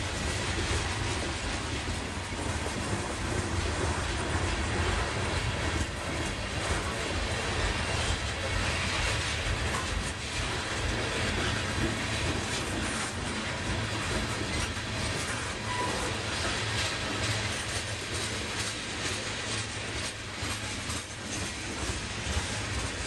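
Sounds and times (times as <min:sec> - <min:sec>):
freight train wheels clacking on rails: 0:00.0 - 0:23.0.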